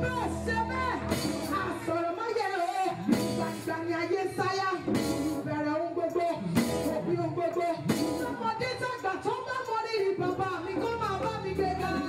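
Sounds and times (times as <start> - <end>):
amplified band playing: 0.0 - 12.0
woman singing into microphone: 0.0 - 12.0.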